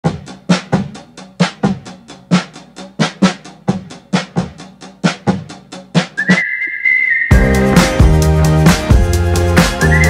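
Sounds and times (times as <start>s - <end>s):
drum beat: 0.0s - 6.4s, 7.3s - 10.0s.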